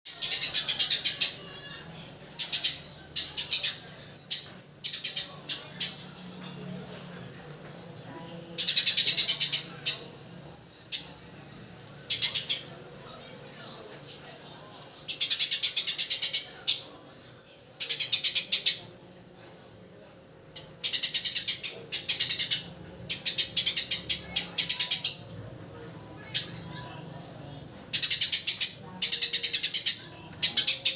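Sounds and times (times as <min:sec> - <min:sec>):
sparrows chirping: 0:00.1 - 0:07.1, 0:08.2 - 0:10.2, 0:10.8 - 0:13.2, 0:15.0 - 0:17.0, 0:17.8 - 0:19.0, 0:20.6 - 0:30.9.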